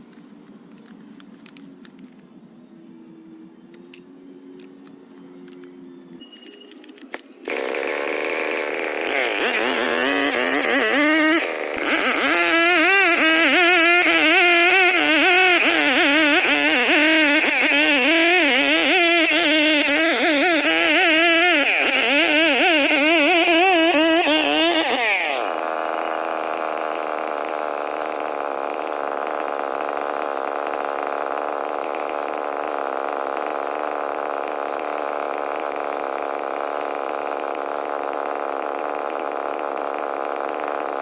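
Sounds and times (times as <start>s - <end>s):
chainsaw engine running: 7.4s - 41.0s.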